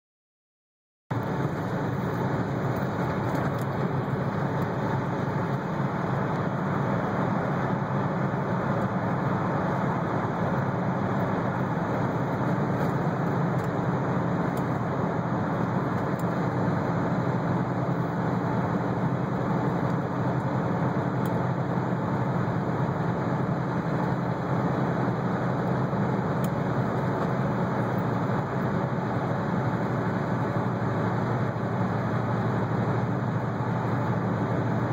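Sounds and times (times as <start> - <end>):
car driving through tunnel: 1.1 - 34.9.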